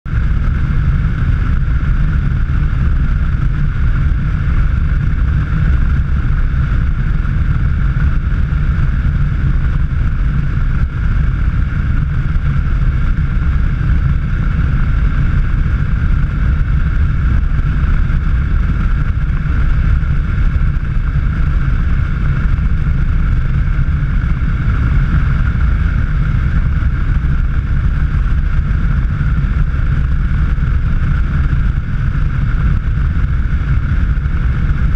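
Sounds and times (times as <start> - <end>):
vehicle engine and road rumble: 0.0 - 34.9.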